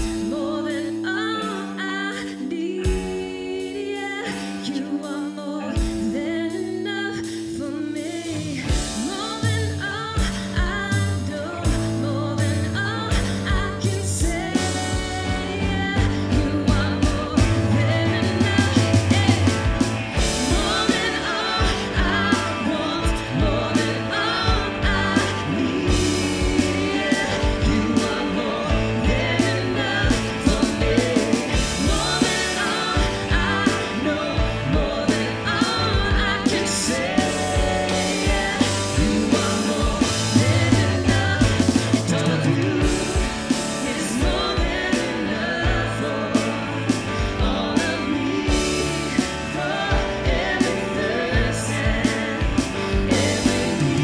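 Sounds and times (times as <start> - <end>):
drum kit beat: 0.0 - 1.7, 2.8 - 4.5, 8.0 - 54.0
electric guitar: 0.0 - 54.0
keyboard: 0.0 - 54.0
person singing: 0.0 - 54.0.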